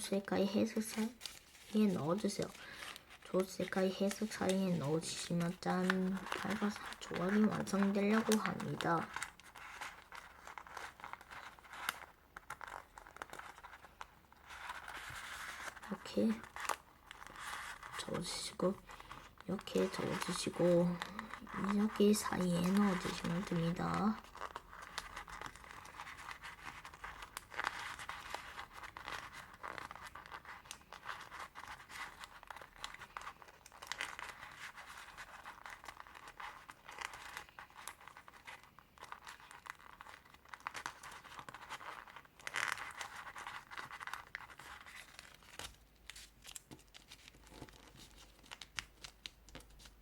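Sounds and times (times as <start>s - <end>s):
paper crinkling and rustling: 0.0s - 50.0s.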